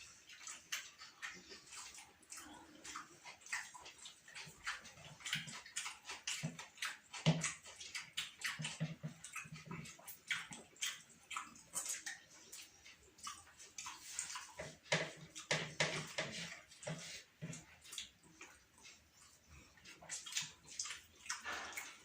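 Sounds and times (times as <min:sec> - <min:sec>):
chewing and smacking mouth sounds: 0:00.0 - 0:22.0.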